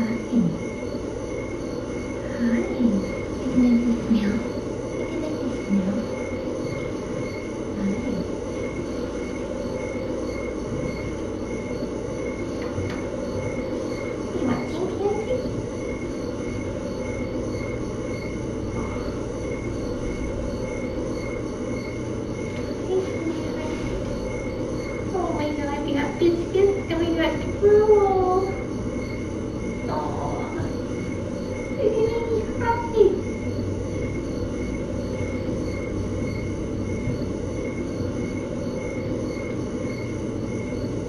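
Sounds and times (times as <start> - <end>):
low rumbling room noise: 0.0 - 41.0.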